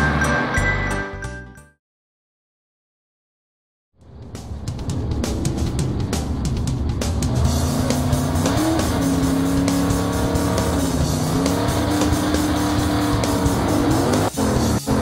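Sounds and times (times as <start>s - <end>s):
background music: 0.0s - 1.8s, 4.1s - 15.0s.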